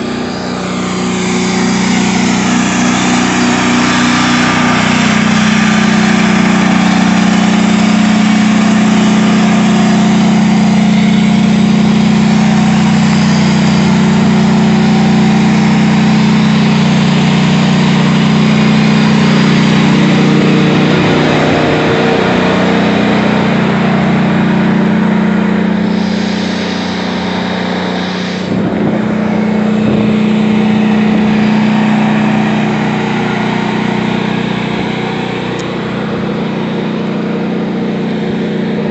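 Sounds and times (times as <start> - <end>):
tank engine droning: 0.0 - 38.9.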